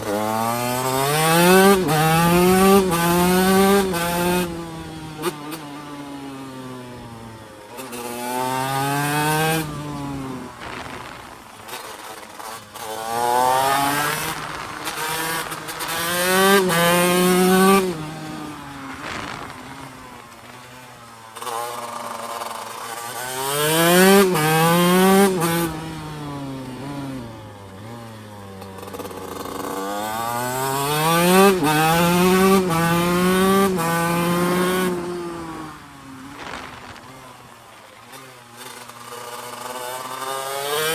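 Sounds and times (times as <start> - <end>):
two-stroke engine accelerating: 0.0 - 40.9.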